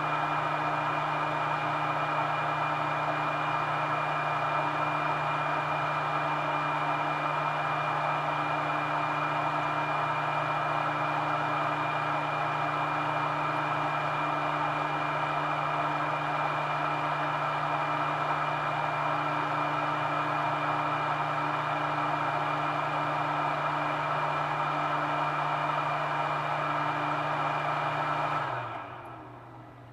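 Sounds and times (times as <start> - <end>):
blower fan whirring: 0.0 - 29.9.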